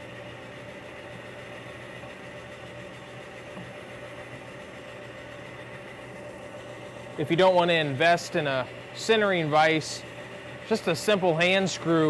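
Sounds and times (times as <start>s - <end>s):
drill press motor humming: 0.0s - 12.0s.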